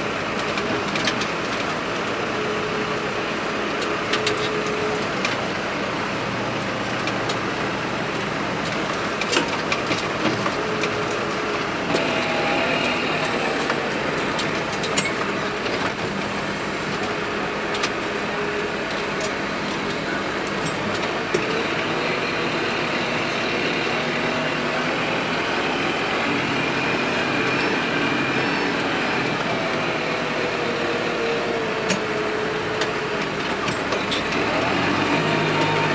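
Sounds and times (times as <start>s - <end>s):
heavy diesel engine working: 0.0s - 35.9s.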